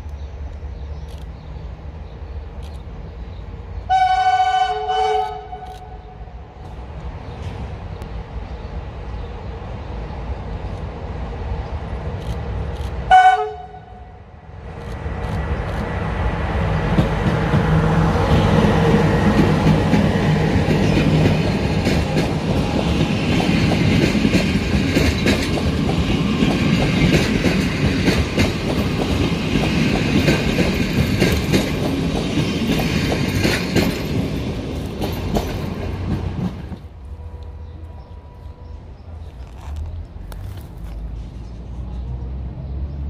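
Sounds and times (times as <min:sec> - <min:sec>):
train rumbling past: 0:00.0 - 0:43.0.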